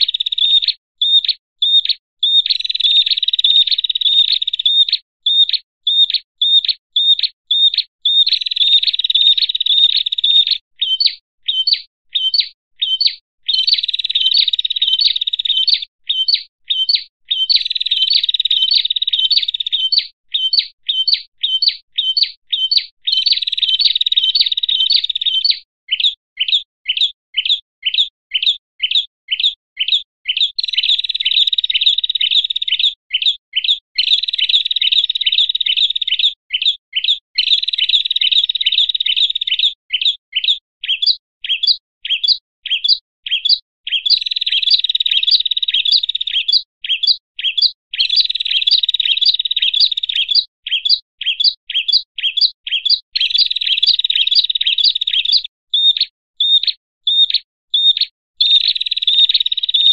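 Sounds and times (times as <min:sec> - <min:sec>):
fast bird chattering: 0:00.0 - 0:59.9
songbird sharp chirps: 0:00.0 - 0:59.9.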